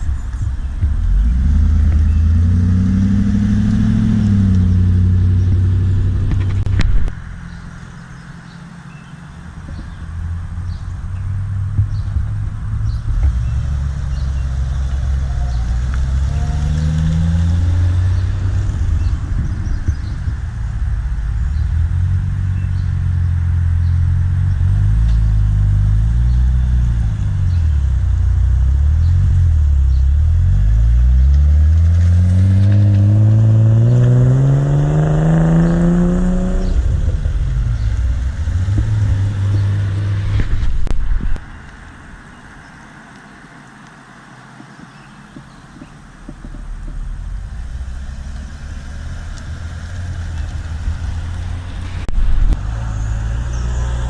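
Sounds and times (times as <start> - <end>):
car engine revving: 0.0 - 43.7, 44.5 - 54.0.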